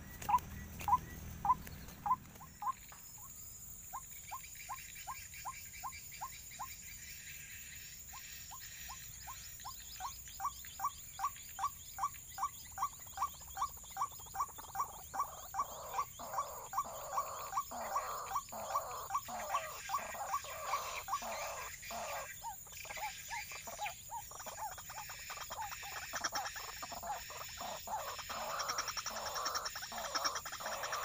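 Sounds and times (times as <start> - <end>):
animal calls: 0.0 - 31.0.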